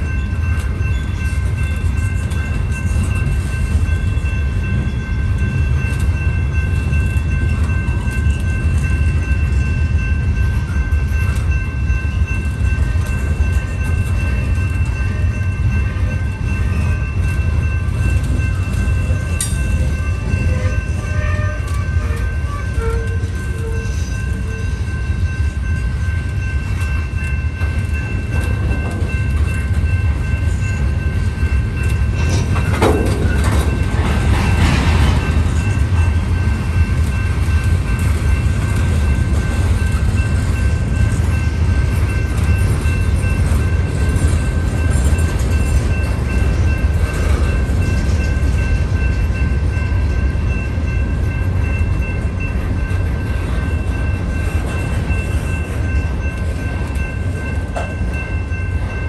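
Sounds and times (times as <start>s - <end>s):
high ringing tones: 0.0s - 59.0s
train wheels rumbling on rail: 0.0s - 59.0s.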